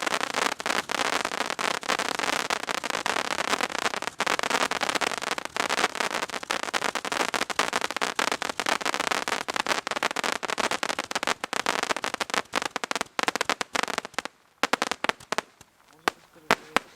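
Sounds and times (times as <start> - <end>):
fireworks rapid cracking bangs: 0.0 - 16.9.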